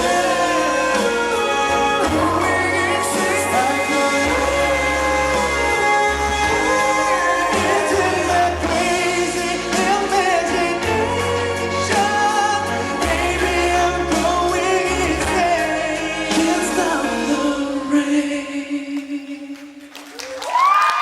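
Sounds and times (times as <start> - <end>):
men singing: 0.0 - 19.8
pop band accompaniment: 0.0 - 19.8.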